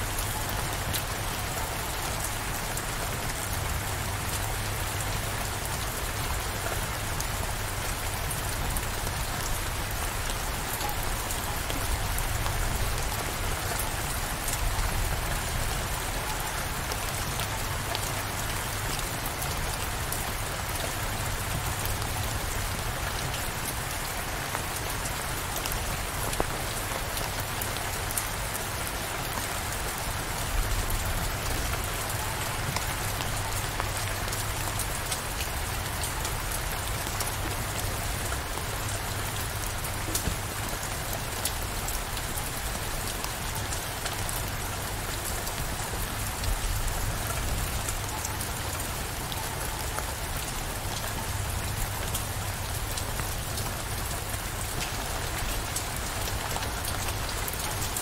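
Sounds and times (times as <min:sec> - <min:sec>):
steady downpour of rain: 0:00.0 - 0:58.0.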